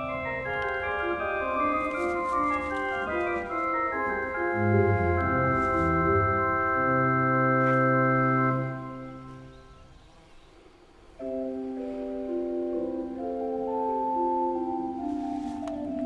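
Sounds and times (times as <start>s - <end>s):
organ-like keyboard chords: 0.0s - 16.0s.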